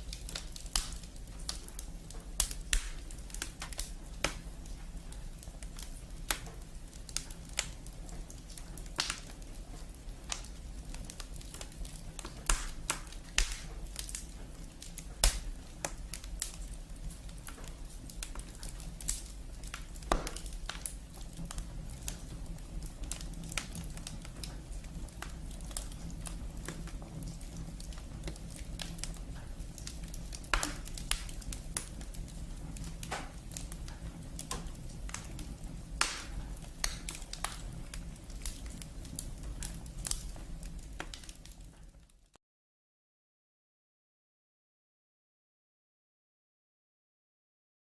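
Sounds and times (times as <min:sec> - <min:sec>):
wood fire crackling: 0:00.0 - 0:42.4.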